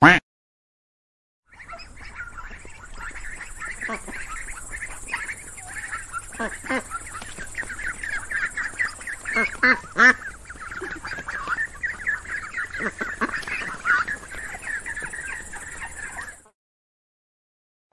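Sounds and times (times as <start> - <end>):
ducks quacking: 0.0 - 0.2, 1.5 - 16.6.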